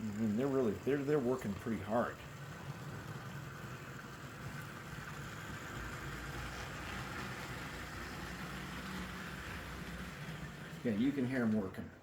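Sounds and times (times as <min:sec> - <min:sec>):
model locomotive motors whining: 0:00.0 - 0:12.0.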